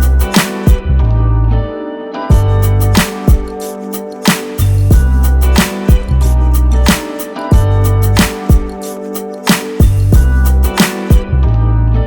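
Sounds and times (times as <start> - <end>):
rhythm and blues music: 0.0 - 12.0.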